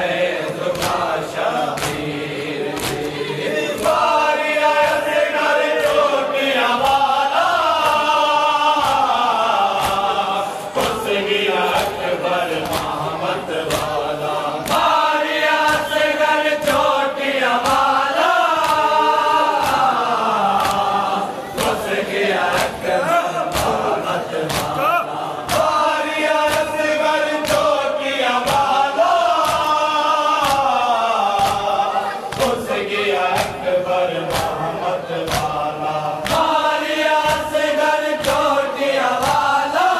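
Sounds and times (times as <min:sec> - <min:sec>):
men chanting: 0:00.0 - 0:39.9
hands slapping chests: 0:00.6 - 0:17.0, 0:17.6 - 0:39.7.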